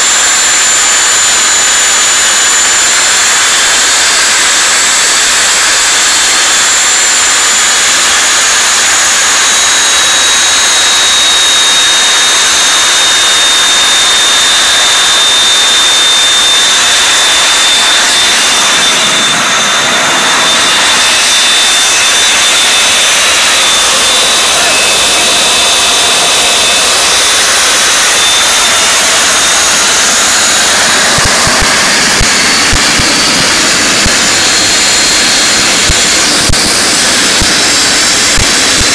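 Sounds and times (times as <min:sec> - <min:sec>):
high compressor whine: 0:00.0 - 0:38.9
jet engine roar: 0:00.0 - 0:38.9.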